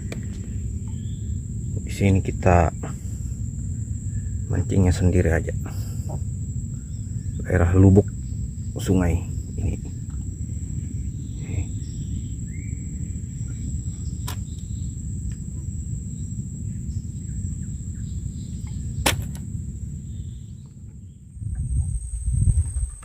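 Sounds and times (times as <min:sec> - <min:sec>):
high insect trill: 0:00.0 - 0:23.0
low rumble: 0:00.0 - 0:23.0.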